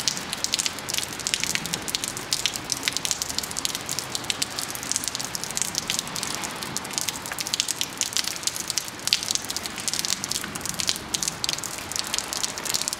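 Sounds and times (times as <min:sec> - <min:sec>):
raindrops ticking near microphone: 0:00.0 - 0:12.9
steady rain: 0:00.0 - 0:12.9.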